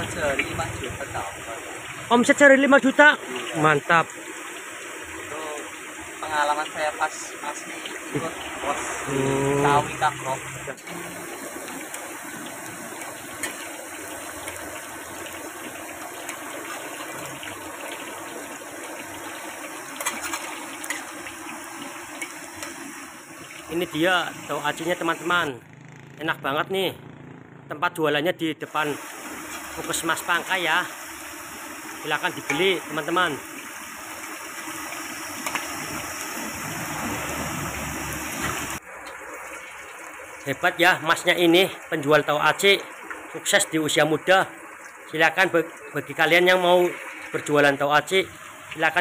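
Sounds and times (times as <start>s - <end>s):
oil sizzling in a wok: 0.0s - 25.9s, 28.7s - 49.0s.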